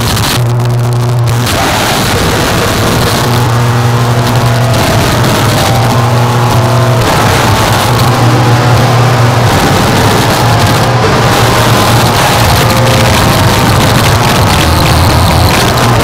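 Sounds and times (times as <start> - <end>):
harsh noise static: 0.0 - 16.0
low steady hum: 0.0 - 16.0.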